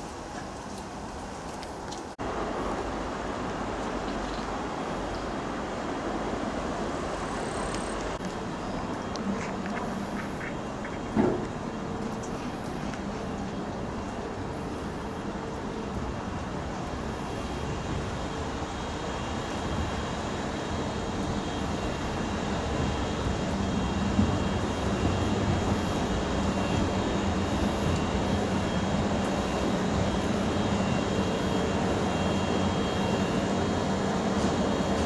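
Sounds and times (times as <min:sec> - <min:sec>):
freight train rumbling on rails: 0:00.0 - 0:35.0.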